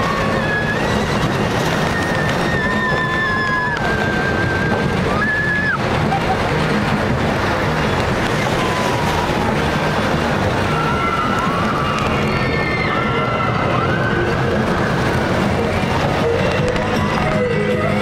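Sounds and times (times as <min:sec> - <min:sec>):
roller coaster rumbling on track: 0:00.0 - 0:18.0
wind on microphone: 0:00.0 - 0:18.0.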